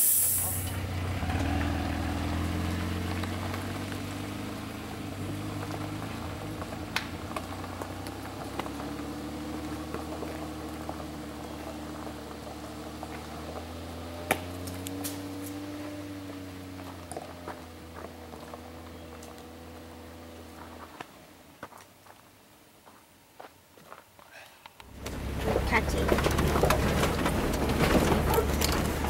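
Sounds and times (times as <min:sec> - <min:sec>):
truck engine running low speed: 0:00.0 - 0:21.6, 0:24.8 - 0:29.0
gravel popping under tyres: 0:00.1 - 0:29.0.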